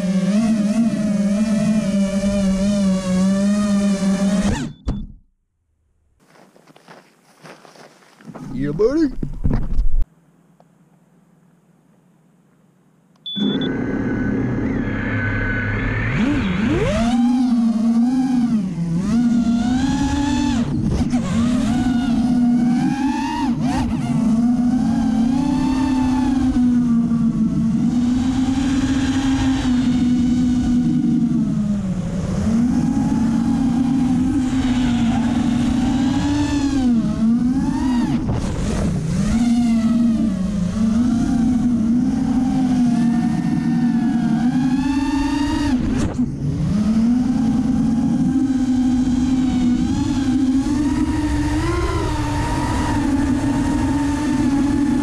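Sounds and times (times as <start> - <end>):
drone motors whining: 0.0 - 5.2, 13.2 - 55.0.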